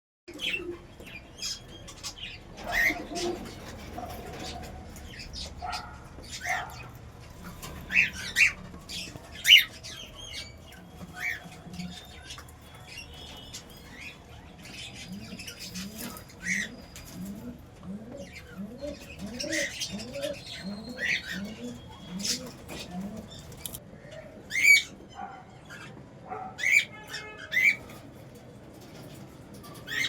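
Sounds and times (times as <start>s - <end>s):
cage birds chirping and squawking: 0.3s - 30.0s.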